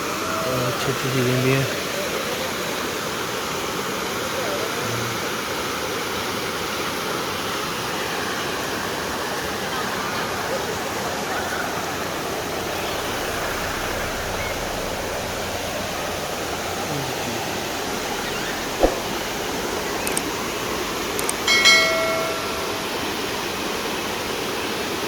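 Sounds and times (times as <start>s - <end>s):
waterfall and stream over rocks: 0.0s - 12.6s, 17.1s - 25.0s.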